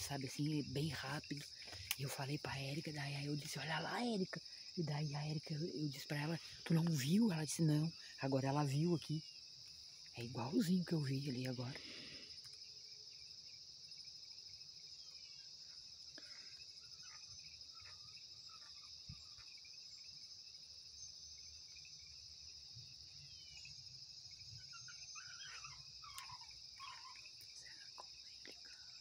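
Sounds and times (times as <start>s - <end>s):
faint chirps: 0.0s - 29.0s
high-pitched insect trill: 0.0s - 29.0s.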